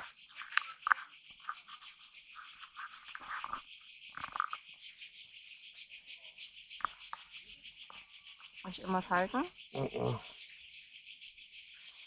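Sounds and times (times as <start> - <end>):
pulsing insect chorus: 0.0 - 12.0.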